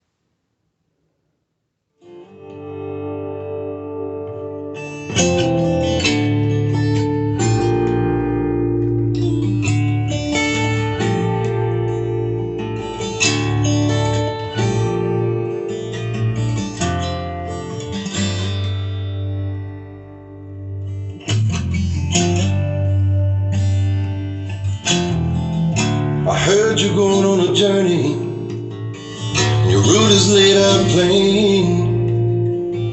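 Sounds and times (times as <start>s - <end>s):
strummed acoustic guitar: 2.1s - 32.9s
bass line: 5.1s - 32.9s.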